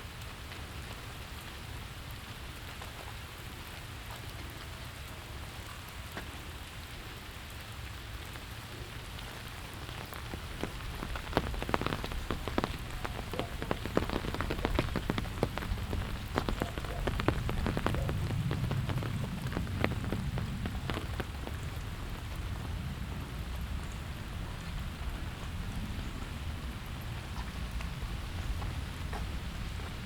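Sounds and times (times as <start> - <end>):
sharp close raindrops striking: 0.0 - 30.0
steady rain falling: 0.0 - 30.0.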